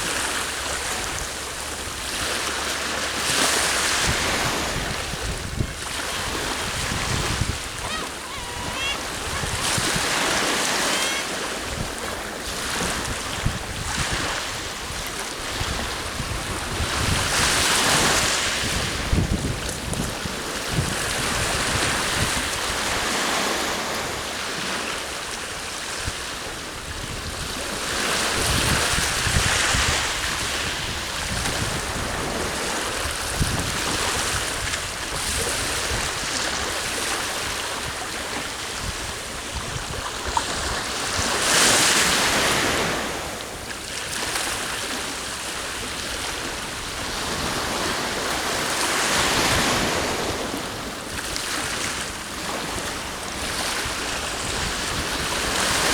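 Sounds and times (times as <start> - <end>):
sea waves washing onto shore: 0.0 - 55.9
wind gusting over microphone: 3.2 - 24.1, 26.0 - 43.7, 45.7 - 55.9.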